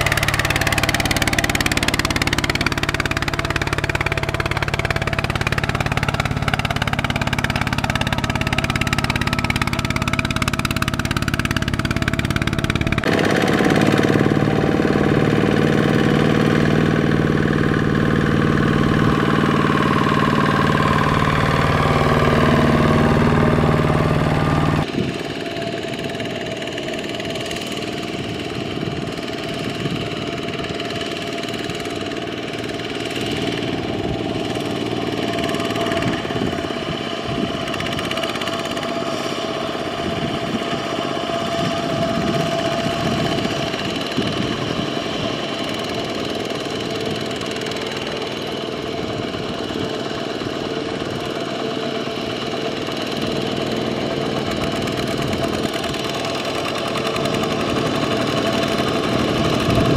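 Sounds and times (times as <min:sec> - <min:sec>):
diesel tiller engines under load: 0:00.0 - 0:59.9.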